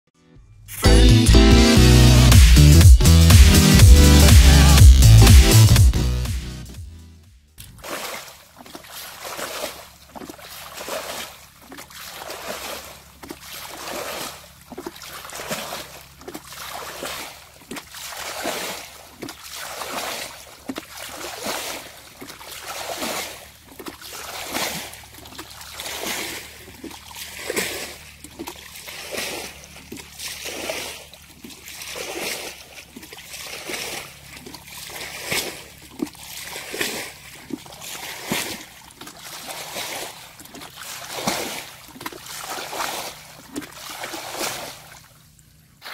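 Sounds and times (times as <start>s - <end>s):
bucket splashing muddy water: 7.6s - 45.9s.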